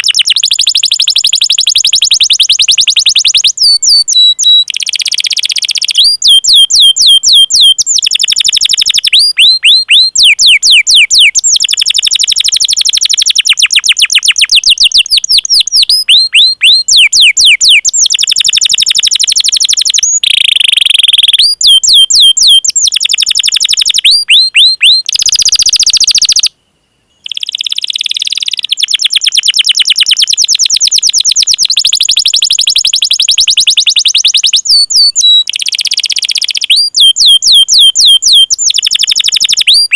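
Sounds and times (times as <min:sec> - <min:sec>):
canary singing: 0:00.0 - 0:26.5, 0:27.1 - 0:39.9.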